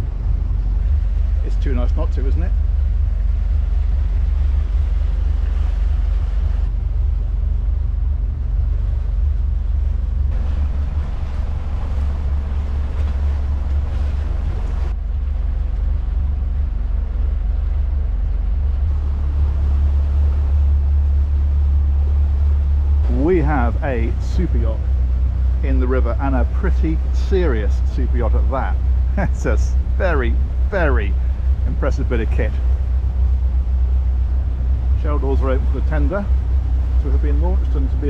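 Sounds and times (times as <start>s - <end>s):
motorboat engine drone: 0.0s - 38.0s
water rushing past hull: 0.0s - 38.0s
wind buffeting microphone: 0.0s - 38.0s.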